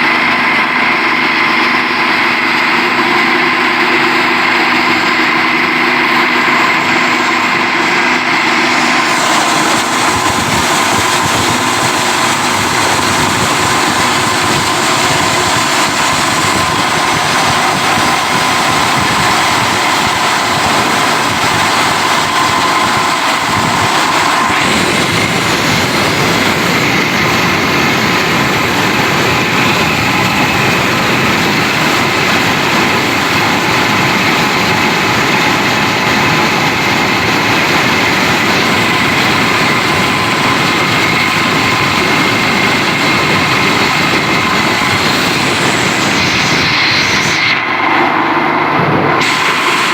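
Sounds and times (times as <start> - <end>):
plastic granulator running: 0.0 - 49.9.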